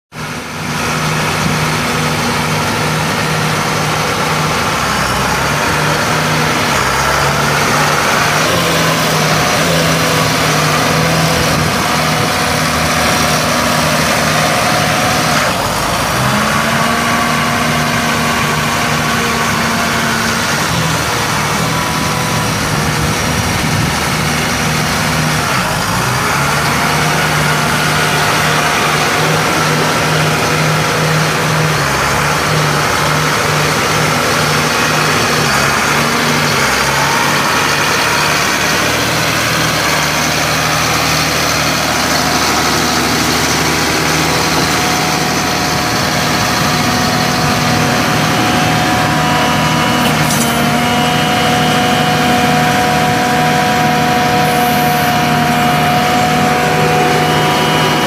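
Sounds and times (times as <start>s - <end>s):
tractor diesel engine revving: 0.1s - 58.0s.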